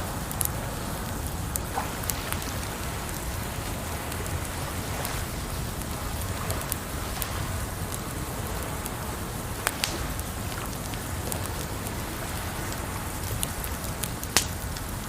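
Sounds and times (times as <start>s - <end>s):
campfire crackling: 0.0s - 15.0s
rushing water: 0.0s - 15.0s
burning wood popping: 0.2s - 15.0s.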